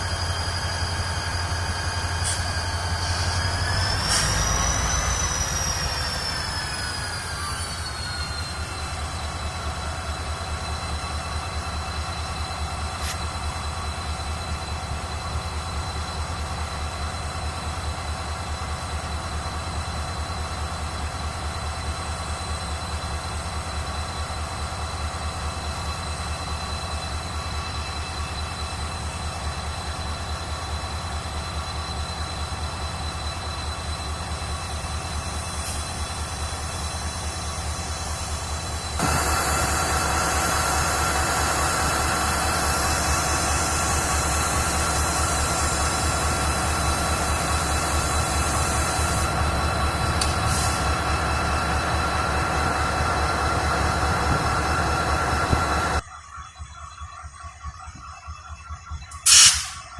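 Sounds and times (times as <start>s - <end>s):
diesel train rumble: 0.0s - 59.9s.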